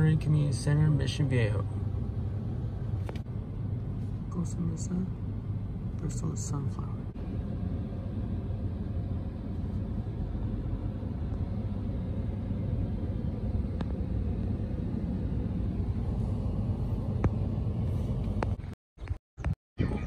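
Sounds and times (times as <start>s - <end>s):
low rumble of road vehicles: 0.0s - 20.0s.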